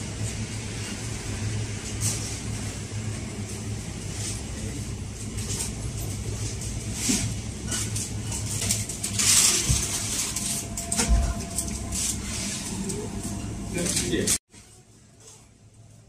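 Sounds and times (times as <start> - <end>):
low hum: 0.0 - 14.4.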